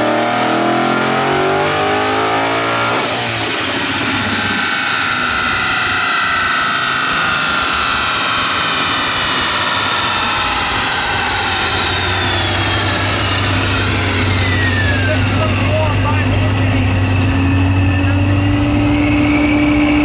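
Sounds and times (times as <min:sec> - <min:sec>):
engine and dyno rollers whining: 0:00.0 - 0:20.0
loud rushing noise: 0:03.0 - 0:20.0.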